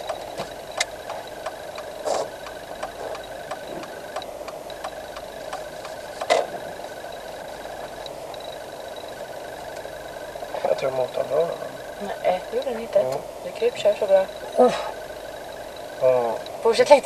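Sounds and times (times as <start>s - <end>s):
car engine running slowly: 0.0s - 17.0s
turn-signal relay ticking: 0.0s - 17.0s.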